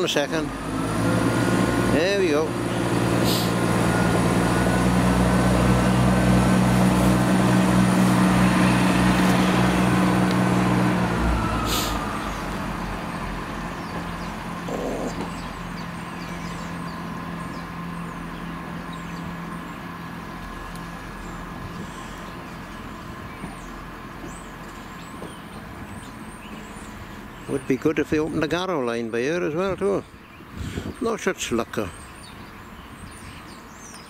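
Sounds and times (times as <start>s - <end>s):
diesel train engine droning: 0.0s - 34.0s.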